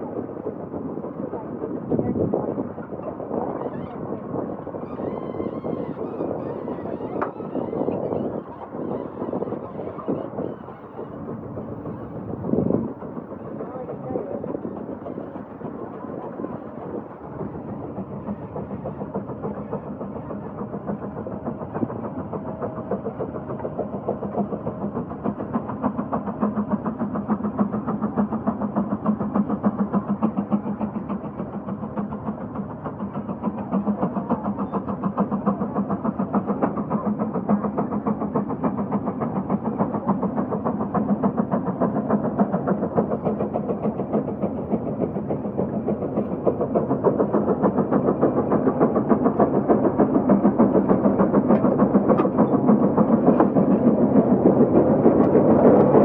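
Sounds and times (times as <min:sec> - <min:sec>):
steam engine exhaust chuffing: 0:00.1 - 0:56.0.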